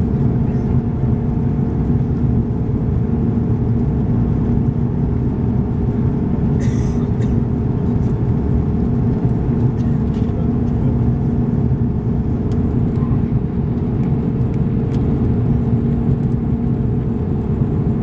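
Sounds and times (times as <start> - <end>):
airplane cabin engine roar: 0.0 - 18.0.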